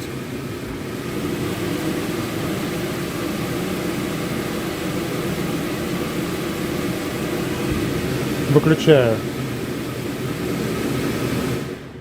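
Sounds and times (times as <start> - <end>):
range hood fan running: 0.0 - 12.0.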